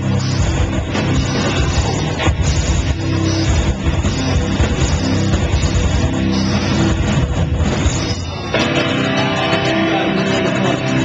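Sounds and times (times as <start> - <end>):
heavy rock band playing: 0.0 - 11.0.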